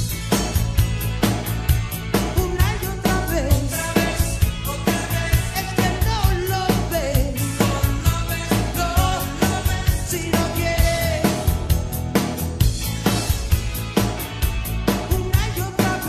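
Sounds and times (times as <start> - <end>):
person singing rock song: 0.0 - 16.0
steady drum beat: 0.0 - 16.0.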